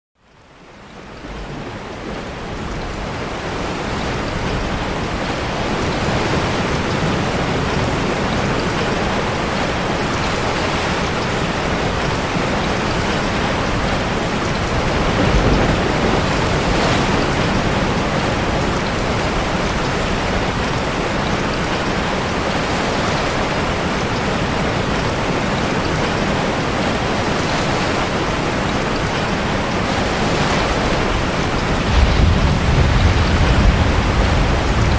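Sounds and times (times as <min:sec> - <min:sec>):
heavy rain: 0:00.2 - 0:34.9
ocean waves breaking in cave: 0:00.2 - 0:34.9.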